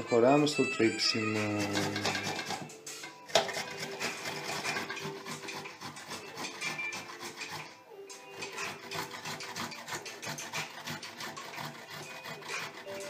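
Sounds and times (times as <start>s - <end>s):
ginger rasping on a grater: 1.1s - 13.0s.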